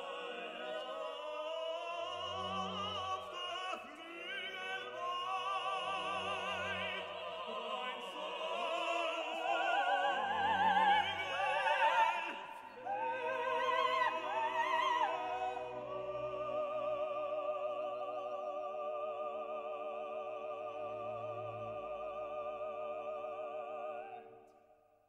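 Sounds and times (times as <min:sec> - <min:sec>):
operatic singing with vibrato: 0:00.0 - 0:24.6.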